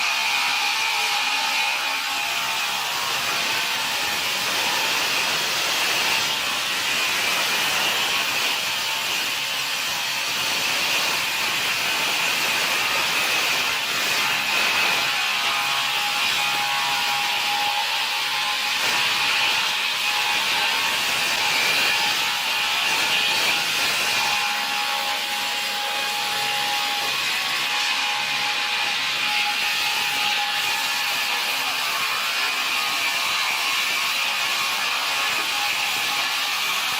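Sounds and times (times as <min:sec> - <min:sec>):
sawmill machinery hissing: 0:00.0 - 0:31.8
saw cutting wood: 0:00.0 - 0:36.9.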